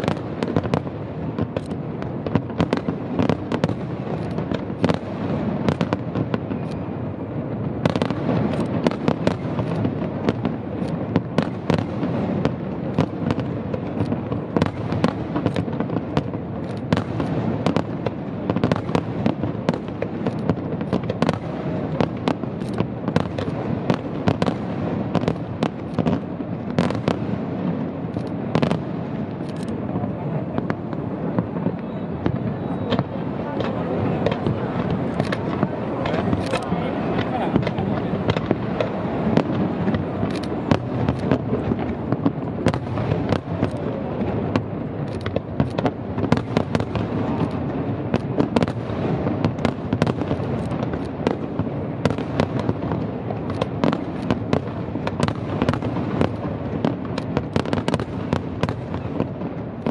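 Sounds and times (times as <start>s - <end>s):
fireworks bursting with sharp bangs: 0.0s - 59.9s
fireworks crackle: 0.0s - 59.9s.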